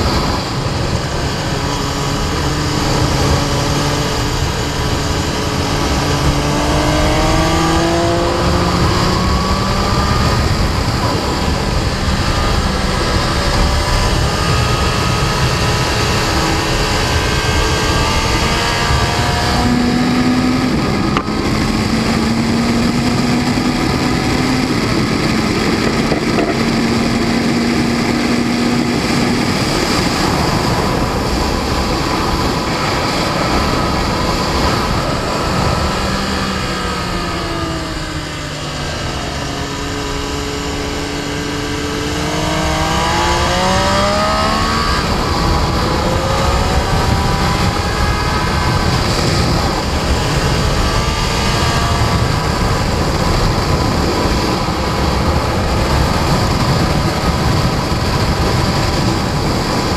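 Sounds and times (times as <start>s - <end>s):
motorcycle engine revving: 0.0s - 59.9s
wind rush on microphone: 0.0s - 59.9s.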